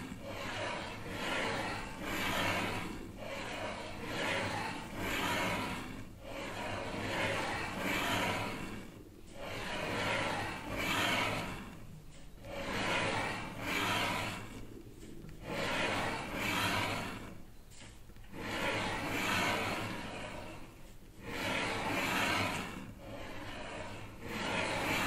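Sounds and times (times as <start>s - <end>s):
scratchy rubbing strokes: 0.0s - 25.0s.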